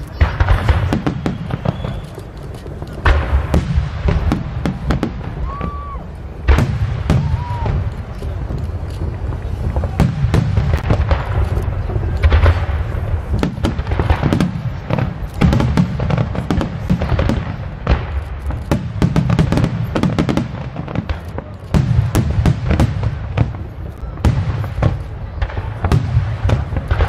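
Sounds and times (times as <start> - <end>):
fireworks booming: 0.0 - 27.0
fireworks cracks and crackle: 0.0 - 27.0.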